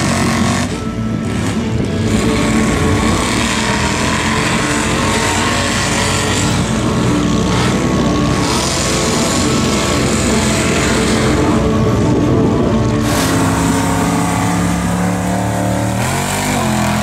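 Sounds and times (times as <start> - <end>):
truck engine running hard: 0.0 - 17.0.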